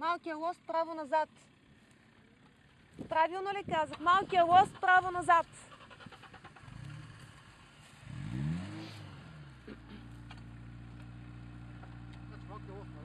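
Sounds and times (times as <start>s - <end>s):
suv engine revving and idling: 1.5s - 13.0s.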